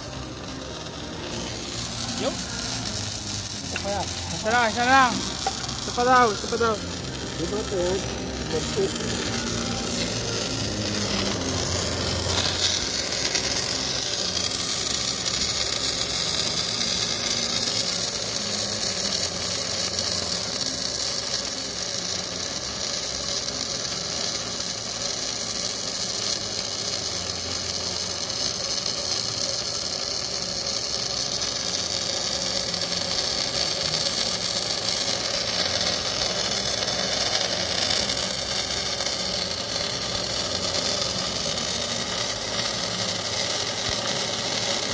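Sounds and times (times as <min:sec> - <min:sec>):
welding arc hissing: 0:00.0 - 0:44.9.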